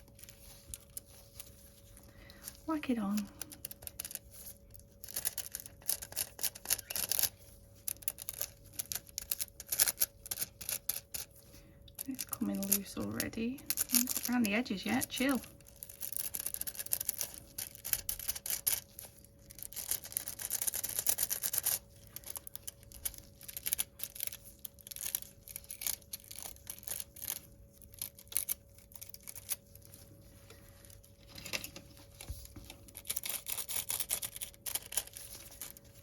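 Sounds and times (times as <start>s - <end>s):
foil rubbing on plastic nail: 0.0s - 11.4s, 12.2s - 31.0s, 32.0s - 36.0s
faint steady hum: 0.0s - 36.0s.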